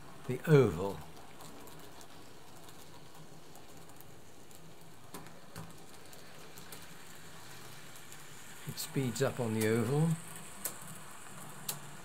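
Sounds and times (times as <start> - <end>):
model train running whir: 0.0 - 12.0.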